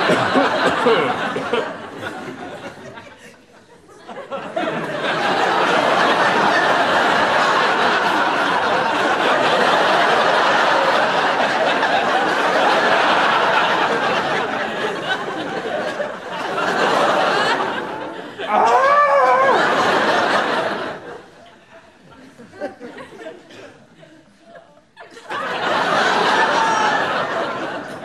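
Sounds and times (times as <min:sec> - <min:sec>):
audience laughing: 0:00.0 - 0:28.0.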